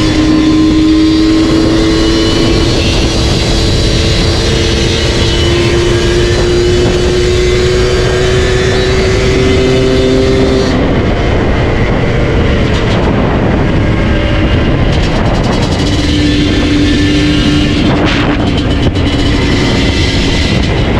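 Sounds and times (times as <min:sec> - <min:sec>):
two-stroke engine running loud: 0:00.0 - 0:20.9.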